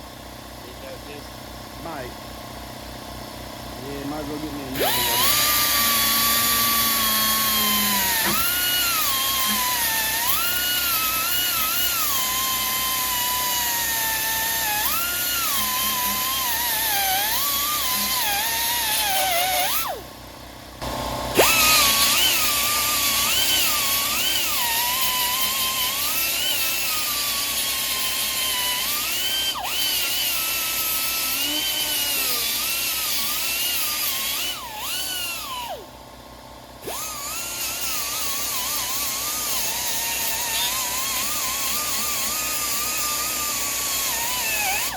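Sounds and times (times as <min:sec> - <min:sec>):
angle grinder grinding metal: 0:03.1 - 0:35.9, 0:36.7 - 0:44.9.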